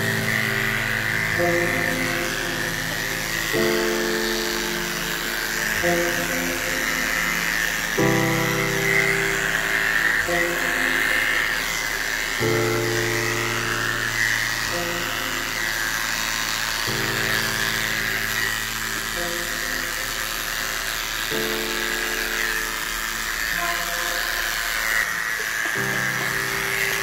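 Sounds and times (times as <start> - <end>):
electric clippers buzzing: 0.0 - 27.0.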